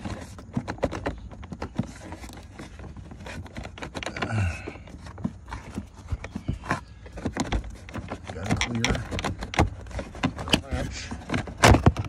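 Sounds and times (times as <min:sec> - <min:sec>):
floor mat rustling: 0:00.0 - 0:12.0.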